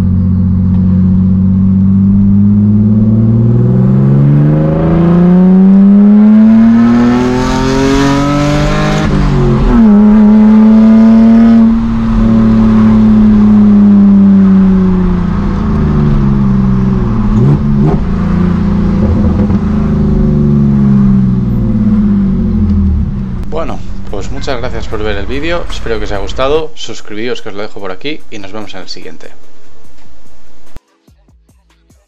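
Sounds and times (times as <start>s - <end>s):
car engine revving: 0.0s - 30.8s.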